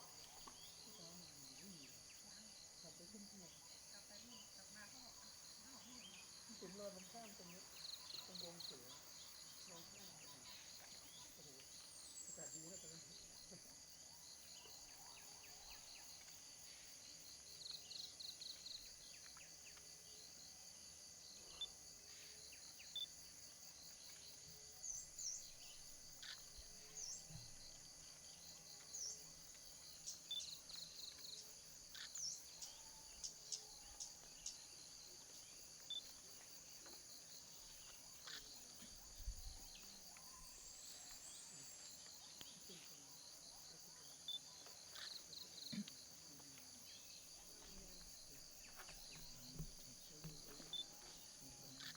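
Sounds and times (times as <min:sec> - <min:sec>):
crickets and insects chirring: 0:00.0 - 0:51.9.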